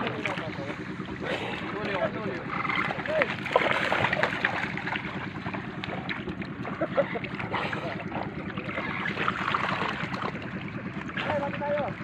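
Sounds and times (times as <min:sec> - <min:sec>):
fish thrashing and splashing: 0:00.0 - 0:12.0.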